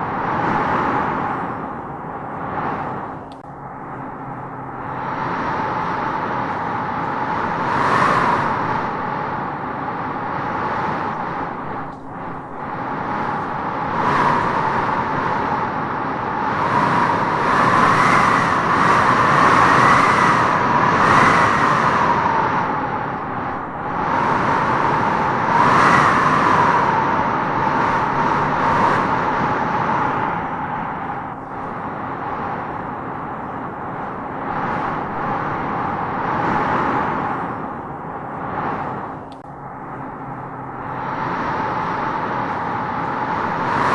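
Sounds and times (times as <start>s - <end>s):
strong wind howling: 0.0s - 43.9s.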